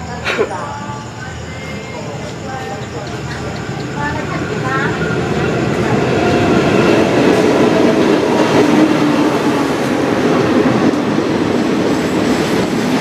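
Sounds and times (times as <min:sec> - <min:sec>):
train passing close: 0:00.0 - 0:13.0.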